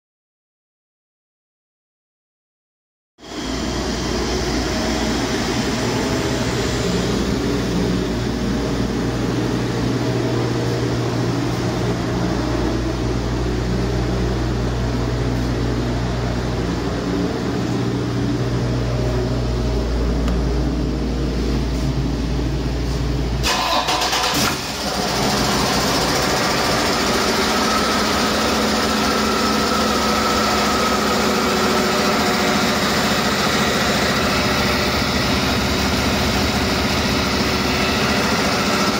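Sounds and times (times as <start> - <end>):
diesel engine running: 3.2 - 38.9
faint engine whine: 3.2 - 38.9.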